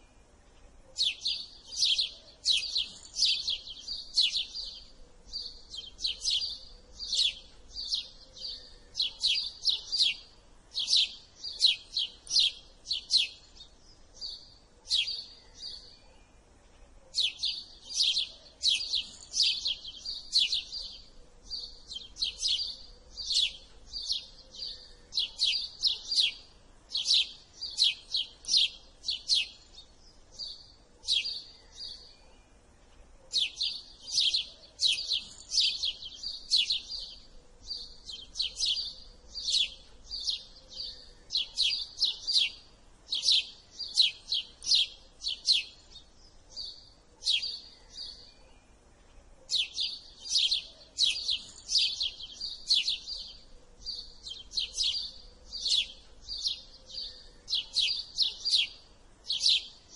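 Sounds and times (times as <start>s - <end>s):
sparrow chirping: 0.0s - 59.9s.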